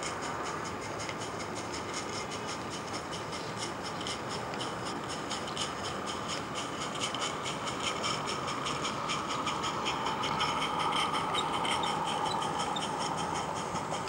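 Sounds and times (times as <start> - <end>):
model train ticking on track: 0.0 - 14.0.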